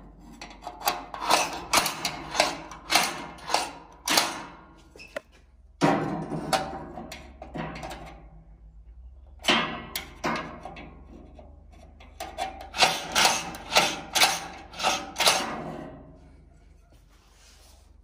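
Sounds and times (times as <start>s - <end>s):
metal rod knocking and scraping: 0.0s - 8.3s, 9.4s - 16.1s.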